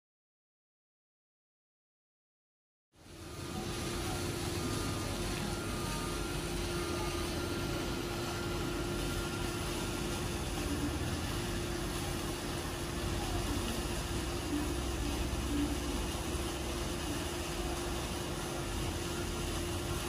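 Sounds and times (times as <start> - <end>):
low mechanical hum: 3.0 - 20.0.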